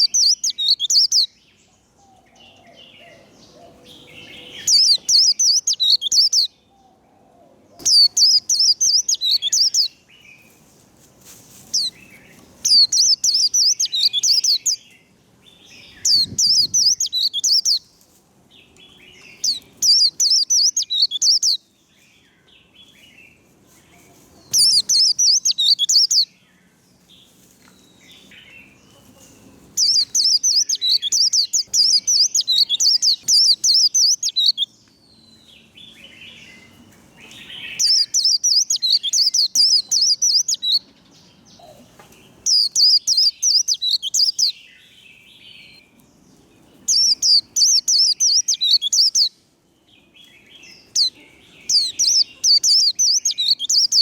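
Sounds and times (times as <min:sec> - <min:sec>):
bird twittering song: 0:00.0 - 0:07.0, 0:07.7 - 0:10.6, 0:11.7 - 0:18.0, 0:18.6 - 0:29.0, 0:29.6 - 0:54.0
soft bird chatter: 0:00.0 - 0:54.0.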